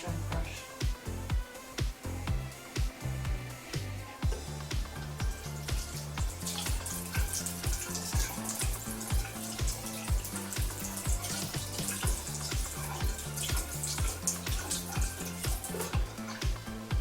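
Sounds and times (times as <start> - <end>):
background music with beat: 0.0 - 17.0
tap water running: 0.0 - 17.0.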